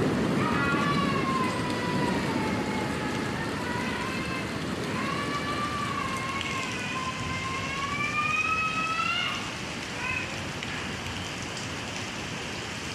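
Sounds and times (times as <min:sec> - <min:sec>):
steady rain falling: 0:00.0 - 0:12.9.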